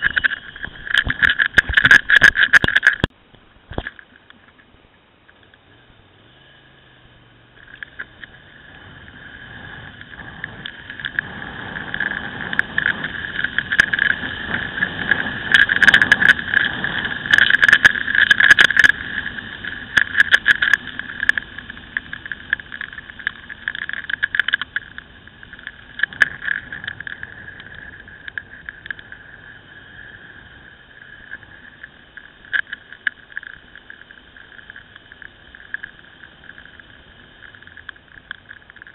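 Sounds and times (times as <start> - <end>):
wind gusts crackling on microphone: 0.0 - 6.0, 7.1 - 38.9
faint motorcycle engine: 0.0 - 38.9
wind and road noise: 0.0 - 38.9.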